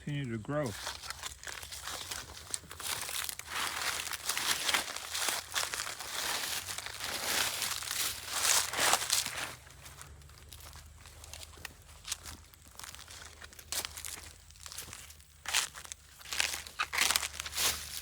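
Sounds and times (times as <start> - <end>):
dry vines and leaves rustling: 0.0 - 18.0.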